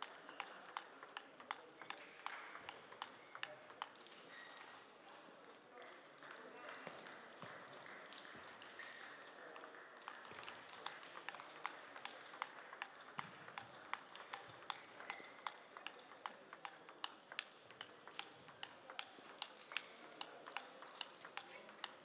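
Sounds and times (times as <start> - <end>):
table tennis ball hits: 0.0 - 4.7, 8.8 - 22.0.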